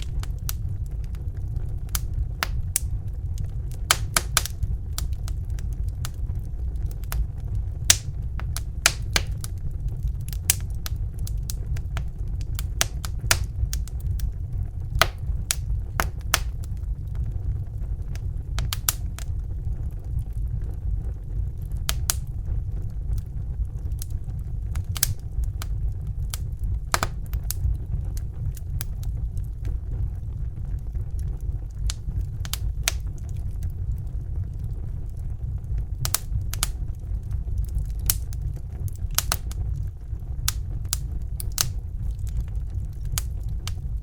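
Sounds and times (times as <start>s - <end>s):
fire popping and snapping: 0.0s - 44.0s
low roar of flame: 0.0s - 44.0s.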